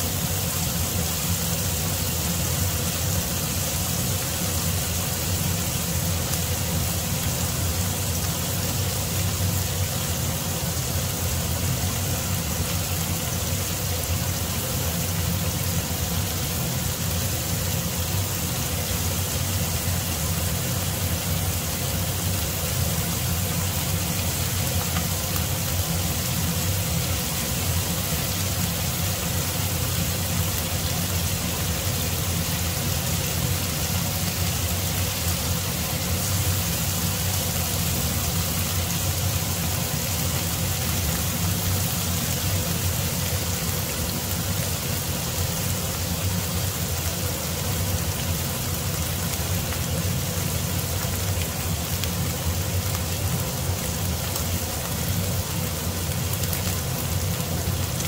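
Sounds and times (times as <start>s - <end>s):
beef sizzling in frying pan: 0.0s - 58.0s.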